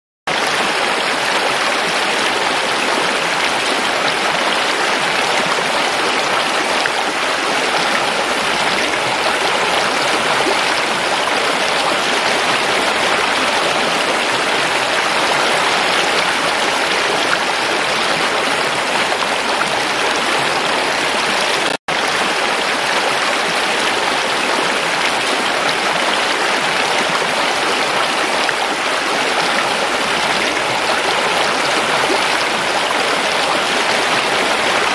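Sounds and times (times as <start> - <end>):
stream splashing over stones: 0.3 - 34.9.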